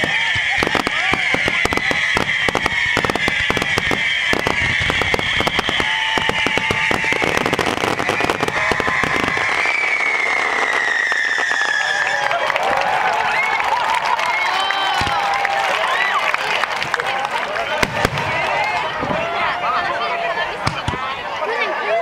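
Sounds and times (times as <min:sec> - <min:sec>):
fireworks bangs and crackling: 0:00.0 - 0:21.2.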